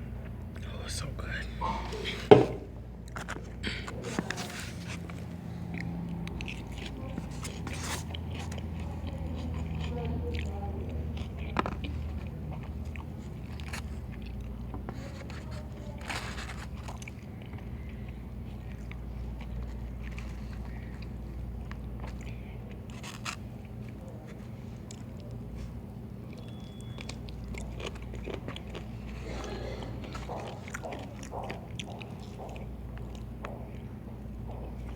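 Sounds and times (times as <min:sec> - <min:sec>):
steady low hum: 0:00.0 - 0:34.9
person chewing food: 0:00.1 - 0:34.9.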